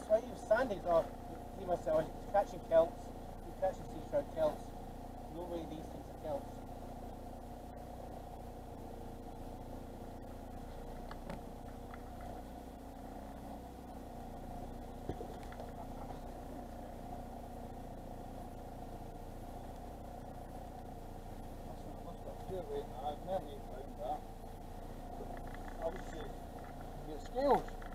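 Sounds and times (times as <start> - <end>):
boat engine humming: 0.0 - 27.9.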